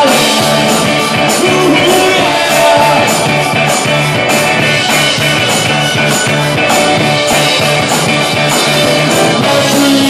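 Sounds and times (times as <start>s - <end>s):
bass guitar line: 0.0s - 10.0s
drum kit with cymbals: 0.0s - 10.0s
electric guitar: 0.0s - 10.0s.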